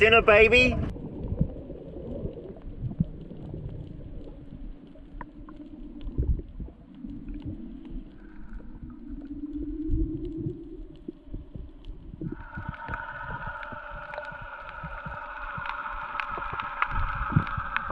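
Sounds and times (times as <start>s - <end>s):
low underwater rumble: 0.0s - 17.9s
faint clicks: 1.2s - 17.9s.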